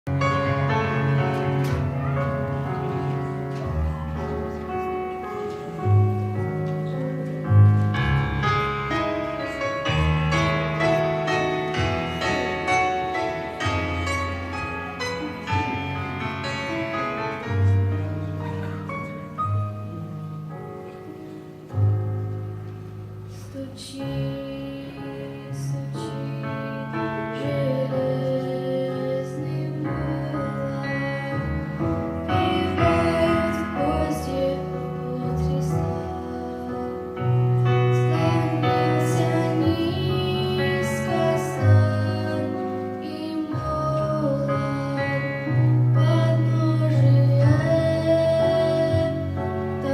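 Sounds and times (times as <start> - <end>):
piano chords over bass notes: 0.0 - 49.9.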